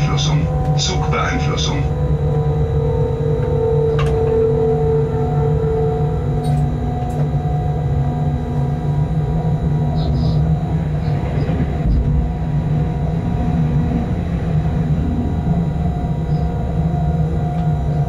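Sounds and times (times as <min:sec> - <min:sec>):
passing train rush: 0:00.0 - 0:05.6, 0:08.9 - 0:18.0
locomotive cab rumble and hum: 0:00.0 - 0:18.0.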